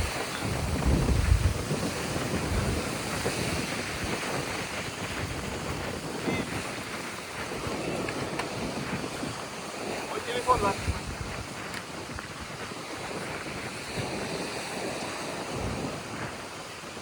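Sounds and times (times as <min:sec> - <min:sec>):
wind rushing: 0:00.0 - 0:16.7
surf washing onto shore: 0:00.0 - 0:17.0
wind buffeting microphone: 0:00.0 - 0:17.0.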